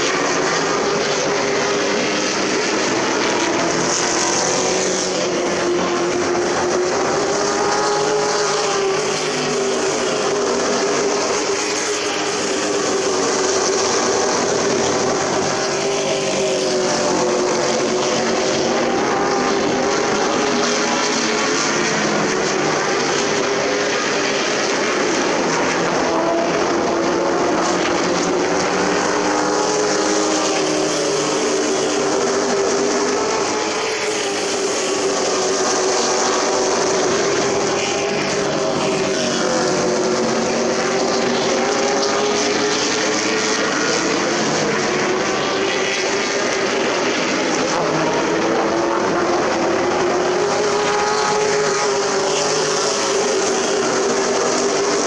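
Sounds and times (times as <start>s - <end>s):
race truck engines droning: 0.0s - 55.0s.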